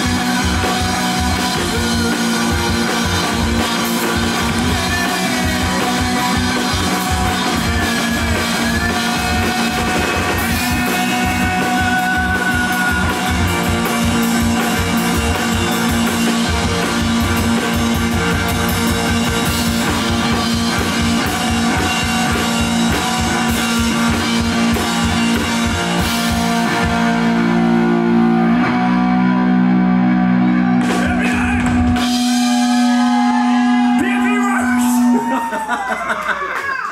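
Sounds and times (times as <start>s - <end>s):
drum kit: 0.0s - 35.9s
electric guitar: 0.0s - 36.9s.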